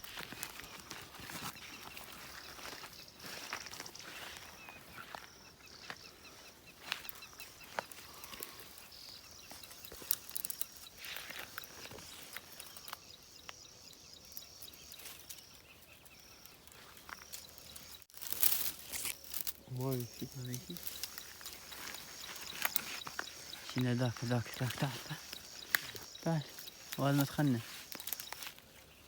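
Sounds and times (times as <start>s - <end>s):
small birds chirping: 0.0s - 29.0s
twigs and leaves crackling underfoot: 0.0s - 29.0s.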